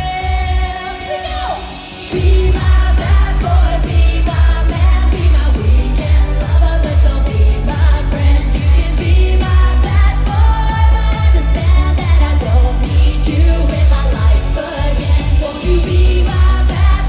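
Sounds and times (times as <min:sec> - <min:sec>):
dance pop music: 0:00.0 - 0:17.0
woman singing: 0:00.0 - 0:17.0
heavy kick drum: 0:02.2 - 0:17.0.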